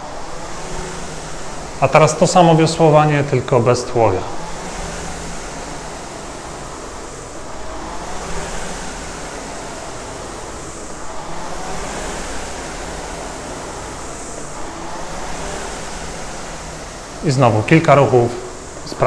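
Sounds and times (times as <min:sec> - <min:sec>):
rowing machine flywheel whooshing: 0:00.0 - 0:19.0.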